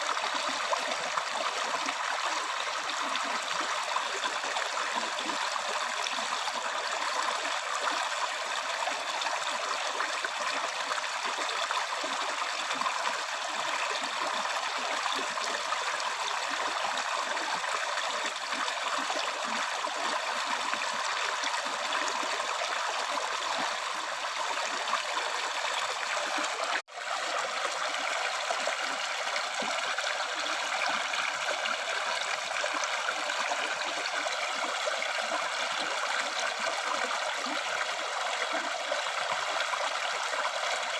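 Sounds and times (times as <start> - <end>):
river stream flowing: 0.0 - 40.9.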